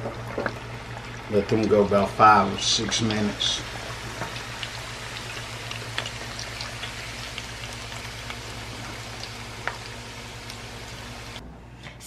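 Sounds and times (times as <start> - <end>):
food deep-frying in oil: 0.0 - 11.4
oil popping and crackling: 0.0 - 11.4
low hum: 0.0 - 12.0.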